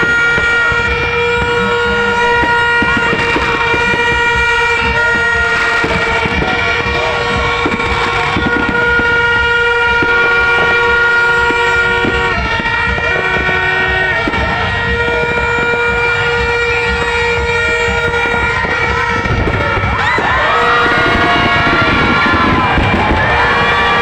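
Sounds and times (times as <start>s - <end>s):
horns sounding long notes: 0.0s - 24.0s
loud noisy background: 0.0s - 24.0s.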